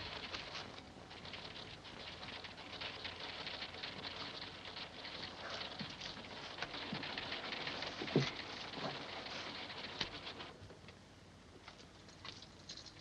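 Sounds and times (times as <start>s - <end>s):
dense crackling clicks: 0.0s - 13.0s
low steady hum: 0.0s - 13.0s.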